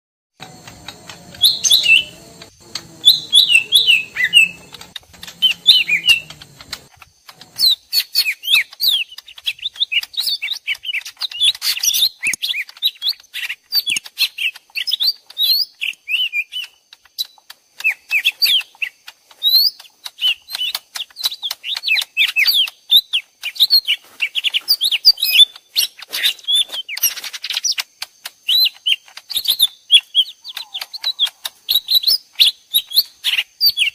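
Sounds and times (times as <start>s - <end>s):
birds chirping and whistling: 0.4s - 27.8s, 28.4s - 33.9s.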